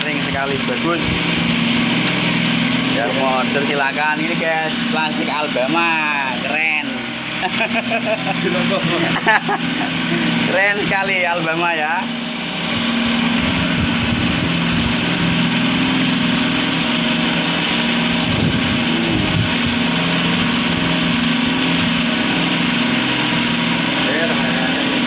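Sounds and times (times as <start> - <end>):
cotton candy machine running: 0.0 - 25.0.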